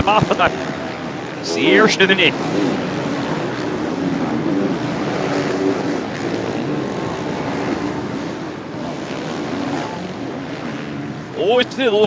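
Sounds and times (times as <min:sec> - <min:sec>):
motocross engines played backwards: 0:00.0 - 0:12.0.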